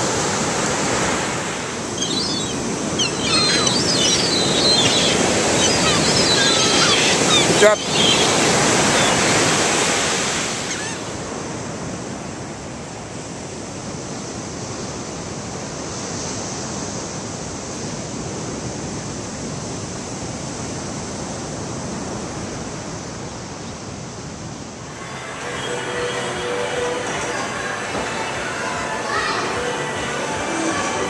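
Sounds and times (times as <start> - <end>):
ocean waves washing onto beach: 0.0 - 31.0.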